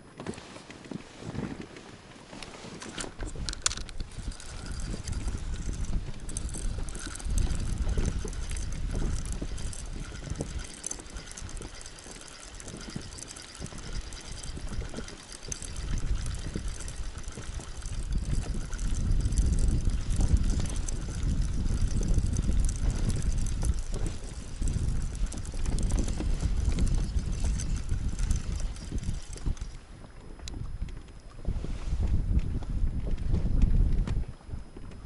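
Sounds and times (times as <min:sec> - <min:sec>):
wind buffeting microphone: 0:02.9 - 0:35.0.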